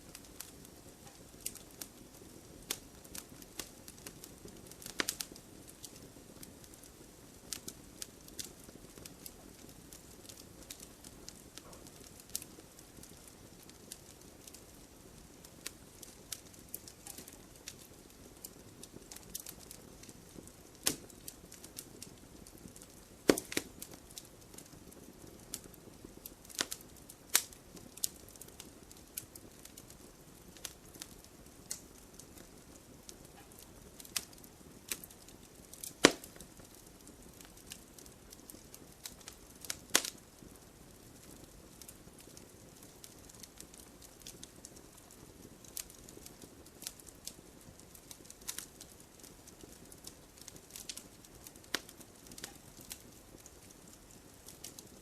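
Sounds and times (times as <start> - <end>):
burning wood popping: 0.0 - 55.0
campfire crackling: 0.0 - 55.0.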